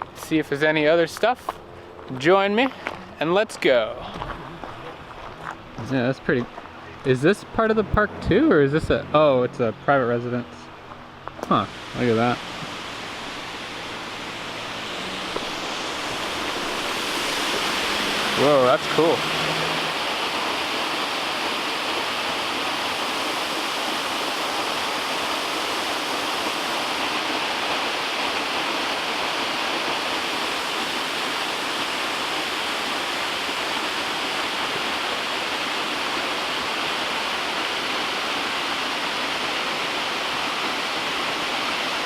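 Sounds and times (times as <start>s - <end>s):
waterfall rushing: 8.0s - 42.0s.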